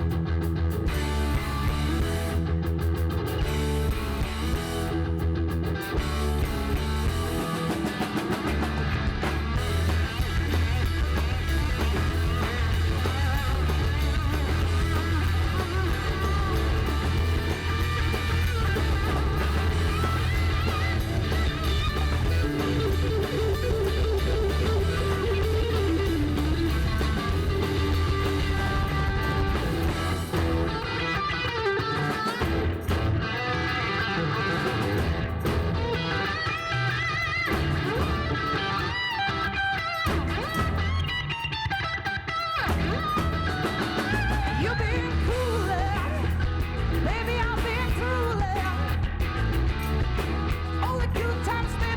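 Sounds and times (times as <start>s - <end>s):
drum kit: 0.0s - 41.5s, 42.6s - 51.9s
bass guitar: 0.0s - 51.9s
electric guitar: 0.0s - 51.9s.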